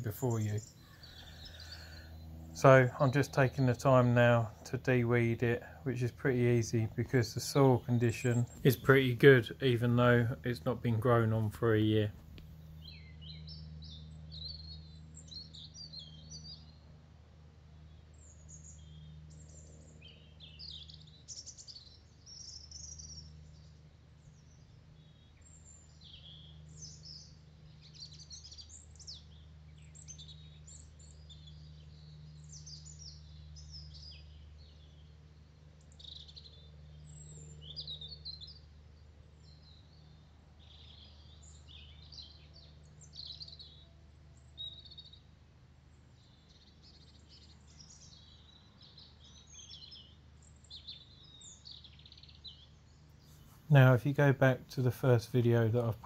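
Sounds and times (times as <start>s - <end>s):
songbirds chirping and singing: 0.0s - 16.8s, 18.2s - 35.2s, 39.4s - 45.2s, 46.2s - 56.0s
low background hum: 0.0s - 56.0s.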